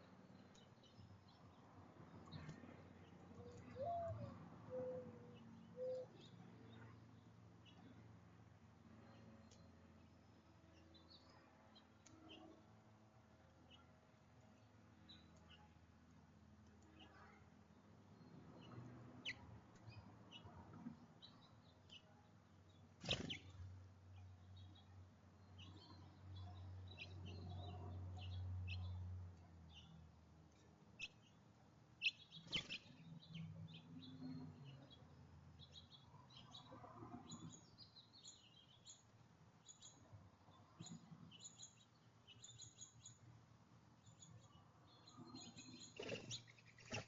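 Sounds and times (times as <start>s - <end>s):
small songbirds chirping: 0.0s - 12.7s, 13.6s - 47.0s.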